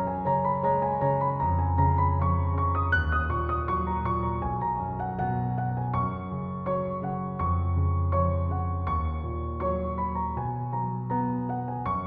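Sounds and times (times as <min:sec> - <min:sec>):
soft piano notes: 0:00.0 - 0:12.0.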